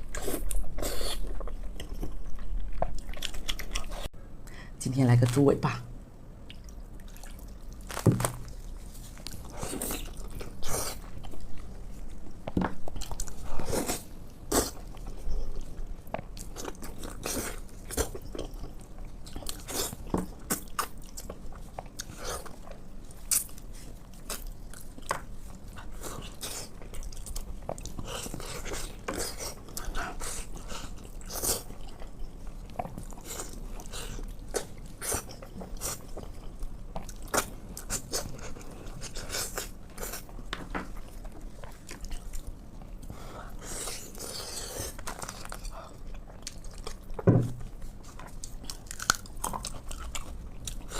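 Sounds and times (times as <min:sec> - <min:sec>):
person chewing wetly: 0:00.0 - 0:04.1, 0:06.5 - 0:50.9.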